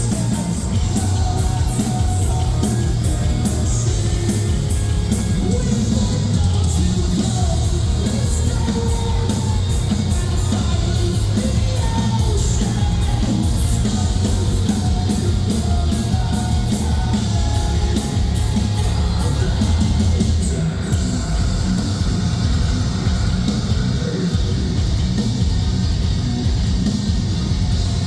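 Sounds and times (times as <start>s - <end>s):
vocals: 0.0s - 26.4s
bass guitar: 0.0s - 28.0s
distorted electric guitars: 0.0s - 28.0s
pounding drums and cymbals: 0.0s - 28.0s.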